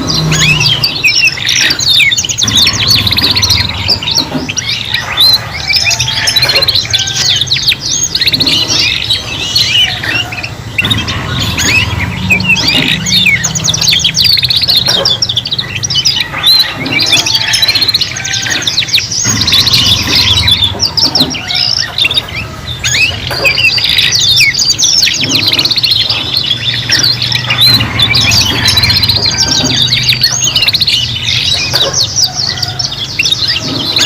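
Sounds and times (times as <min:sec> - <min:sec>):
canaries singing trills and chirps: 0:00.0 - 0:34.0.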